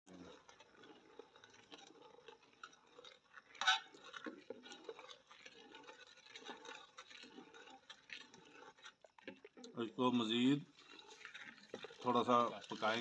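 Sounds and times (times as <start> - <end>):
metal ladle scraping pot: 0.1 - 13.0.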